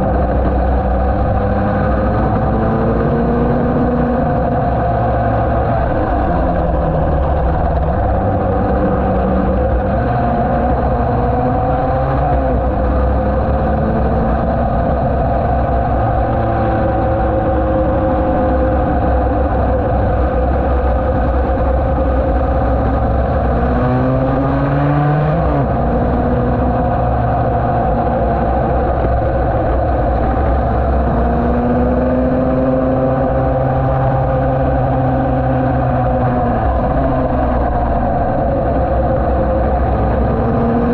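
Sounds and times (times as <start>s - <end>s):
racing motorcycle engine at speed: 0.0s - 40.9s.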